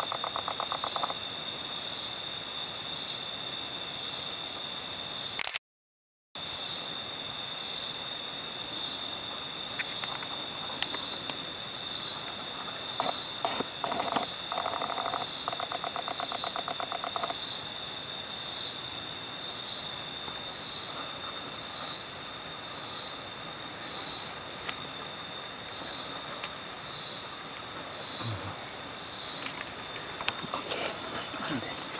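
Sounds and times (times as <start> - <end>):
shrill insect chorus: 0.0 - 5.5, 6.4 - 31.9.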